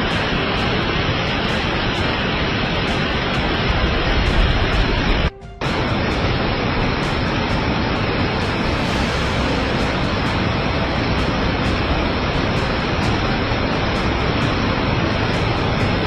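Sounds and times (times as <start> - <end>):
heavy rain hissing: 0.0 - 16.0
music: 0.0 - 16.0.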